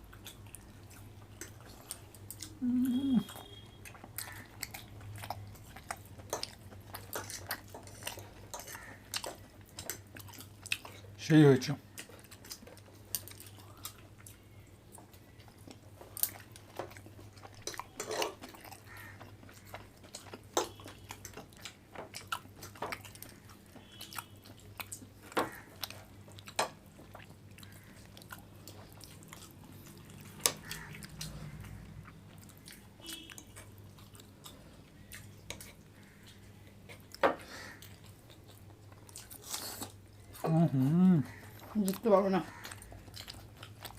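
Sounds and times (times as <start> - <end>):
people chewing food: 0.0 - 43.9.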